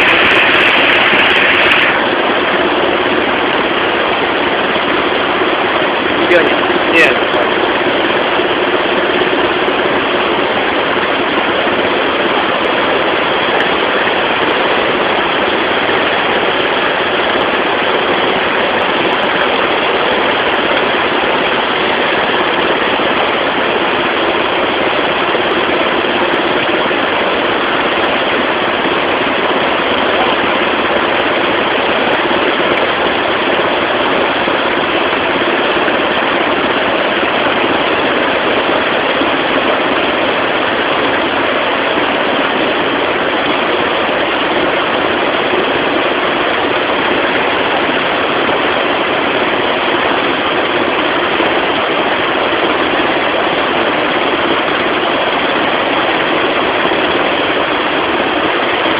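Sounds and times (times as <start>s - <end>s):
boat motor running: 0.0s - 58.9s
dense rush of noise: 0.0s - 58.9s.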